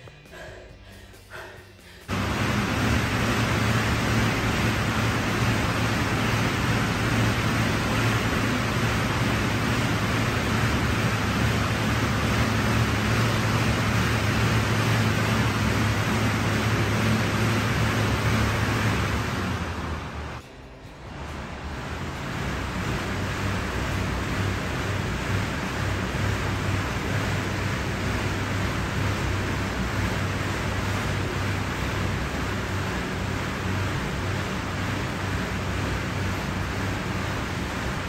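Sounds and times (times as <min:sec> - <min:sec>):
low hum: 0:00.0 - 0:38.0
air rushing close to microphone: 0:02.1 - 0:20.4, 0:21.1 - 0:38.0.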